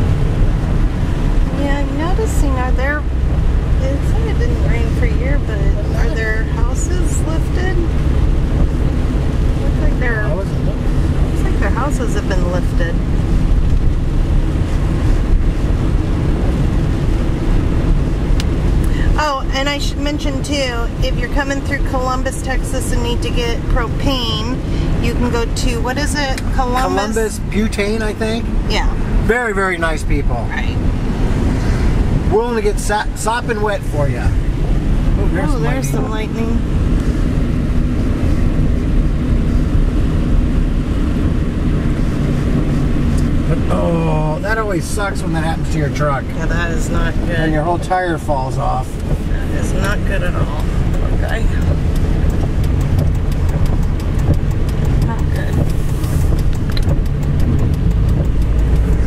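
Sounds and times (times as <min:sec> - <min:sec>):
diesel engine rumble: 0:00.0 - 0:59.0
rain on windshield: 0:00.0 - 0:59.0
tyres on wet pavement: 0:00.0 - 0:59.0.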